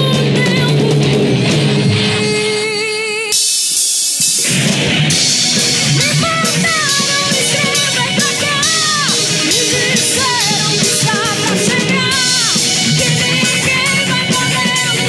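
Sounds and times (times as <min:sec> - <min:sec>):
bass guitar: 0:00.0 - 0:03.4, 0:04.2 - 0:15.0
woman singing lead: 0:00.0 - 0:03.6, 0:05.6 - 0:15.0
drum kit: 0:00.0 - 0:15.0
electric guitars: 0:00.0 - 0:15.0.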